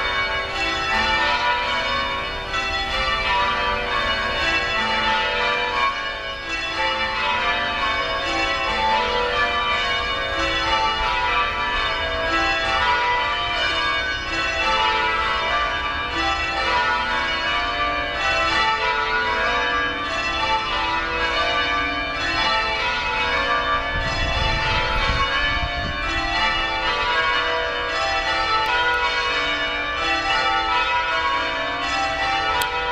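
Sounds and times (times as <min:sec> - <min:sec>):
church bells pealing: 0:00.0 - 0:32.9.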